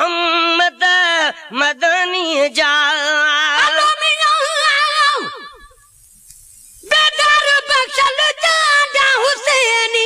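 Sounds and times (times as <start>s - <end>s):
man singing unaccompanied: 0.0s - 5.6s, 6.9s - 10.0s.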